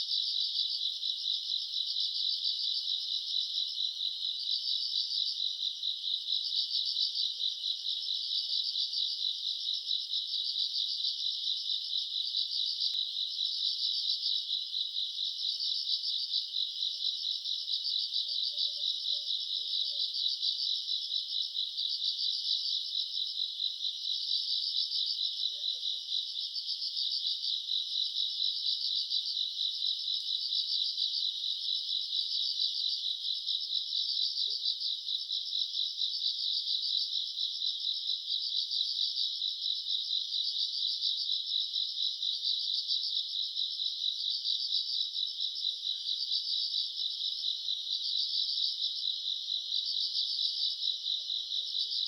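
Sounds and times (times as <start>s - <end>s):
crickets chirping in trills: 0.0s - 52.0s.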